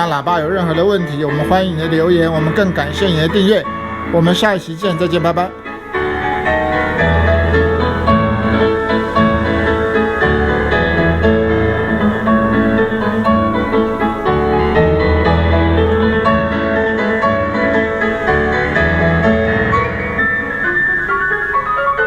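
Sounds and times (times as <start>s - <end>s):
piano instrumental music: 0.0s - 22.0s.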